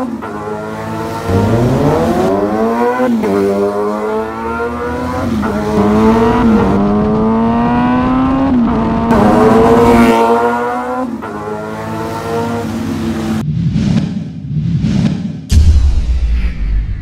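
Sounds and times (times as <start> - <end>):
motorcycle engine accelerating: 0.0 - 15.6.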